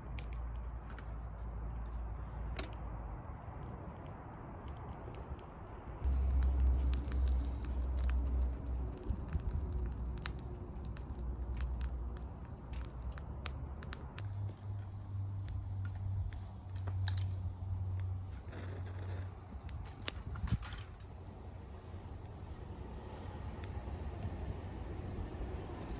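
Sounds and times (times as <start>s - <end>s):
campfire crackling and popping: 0.0s - 25.9s
low steady rumble: 0.0s - 25.9s.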